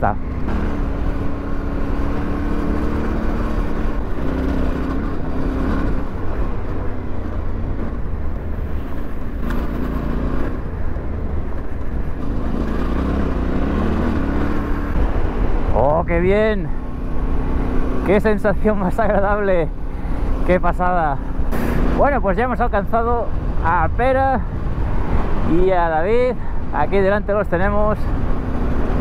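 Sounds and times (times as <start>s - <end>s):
motorcycle engine running: 0.0s - 23.7s
rushing wind: 0.0s - 29.0s.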